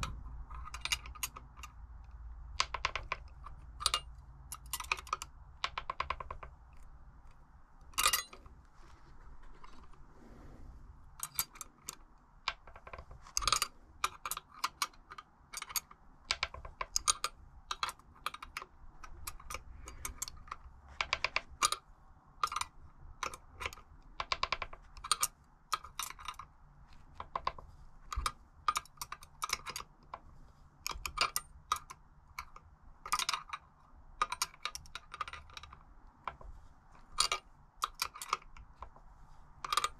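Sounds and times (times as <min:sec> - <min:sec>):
small tools clicking and tapping: 0:00.0 - 0:08.5, 0:11.2 - 0:21.8, 0:22.4 - 0:39.9
faint low hum: 0:00.0 - 0:39.9.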